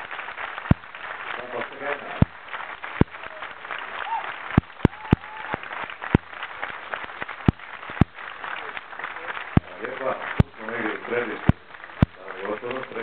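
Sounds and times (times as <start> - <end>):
audience applauding: 0.0 - 13.0
loud sharp claps: 0.0 - 13.0.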